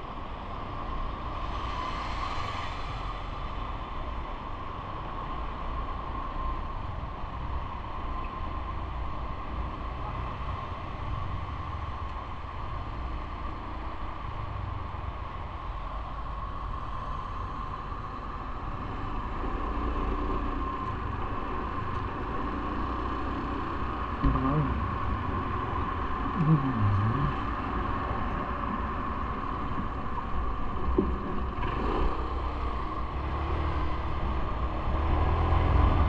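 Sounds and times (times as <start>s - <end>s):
thin steady whine: 0.0s - 31.6s
wind and vehicle rumble: 0.0s - 36.0s.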